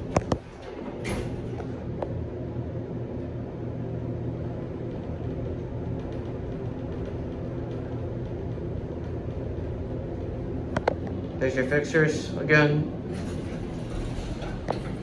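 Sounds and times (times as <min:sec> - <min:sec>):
elevator hum and rumble: 0:00.0 - 0:15.0.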